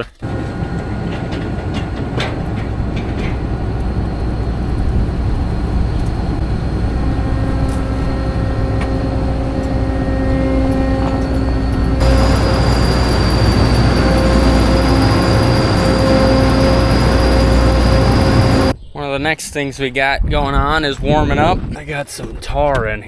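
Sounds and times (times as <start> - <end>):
steady whine: 0.0 - 19.1
machinery engine rumbling: 0.0 - 19.3.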